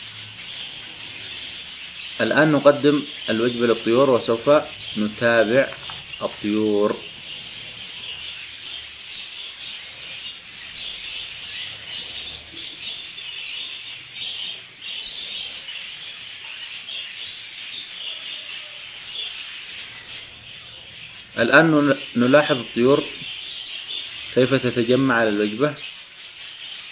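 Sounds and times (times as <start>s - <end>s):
budgerigars chattering: 0.0s - 26.9s.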